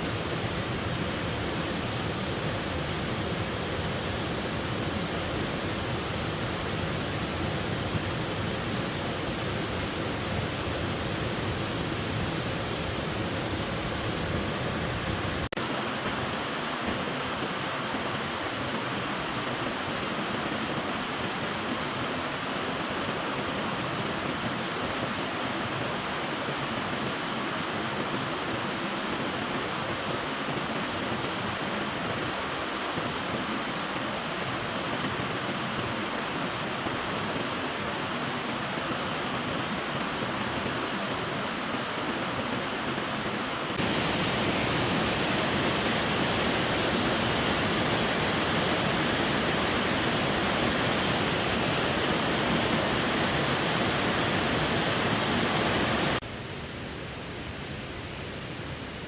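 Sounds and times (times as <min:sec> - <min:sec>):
waterfall rushing: 0:00.0 - 0:56.2.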